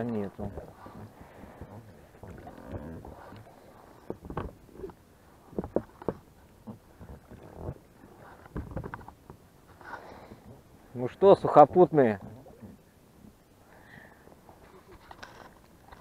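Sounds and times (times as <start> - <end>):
oars splashing in water: 0.0 - 13.4
oars and hull knocking and creaking: 0.0 - 13.5, 14.2 - 16.0.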